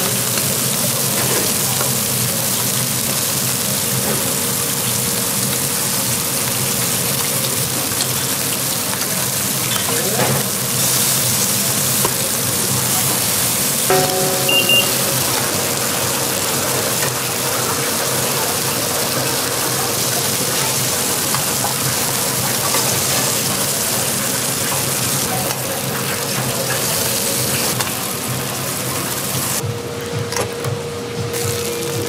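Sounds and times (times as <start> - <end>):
food sizzling in a pan: 0.0 - 29.6.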